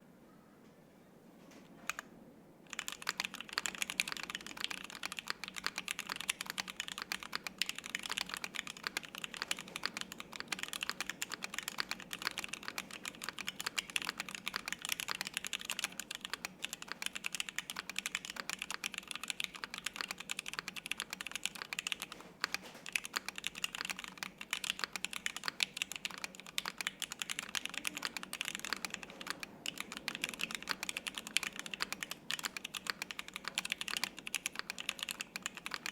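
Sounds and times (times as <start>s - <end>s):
fast typing on mechanical keyboard: 2.7s - 35.9s.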